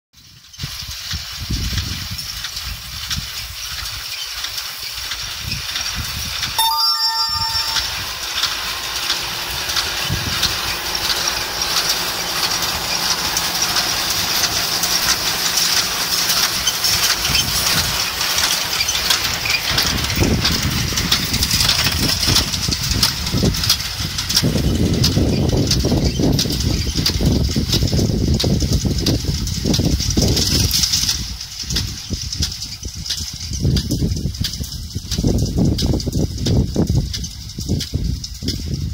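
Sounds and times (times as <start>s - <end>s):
baler mechanical clatter: 0.2s - 38.9s
tractor diesel engine running: 0.7s - 6.6s, 7.8s - 38.9s.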